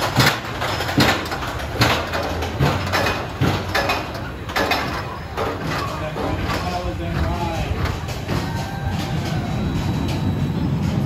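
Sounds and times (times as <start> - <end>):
roller coaster running noise: 0.0 - 11.0
roller coaster track clacks: 0.0 - 11.0.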